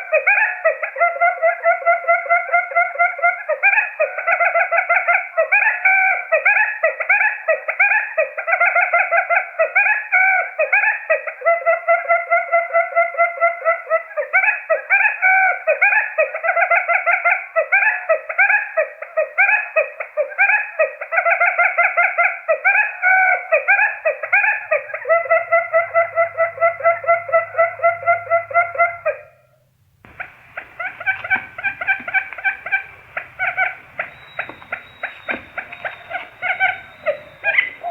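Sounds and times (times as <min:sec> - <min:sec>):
recorded quail calls: 0:00.0 - 0:37.9.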